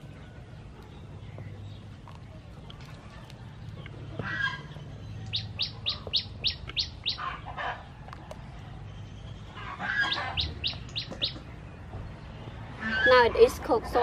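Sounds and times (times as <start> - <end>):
rough bird calls: 0.0 - 13.5.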